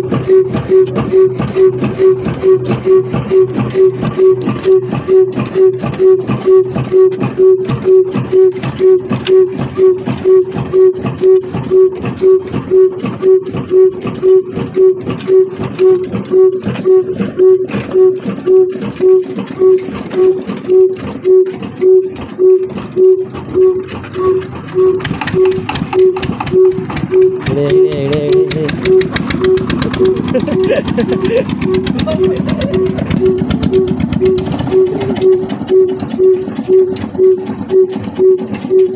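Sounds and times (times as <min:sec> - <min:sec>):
diesel engine running slowly: 0:00.0 - 0:38.9.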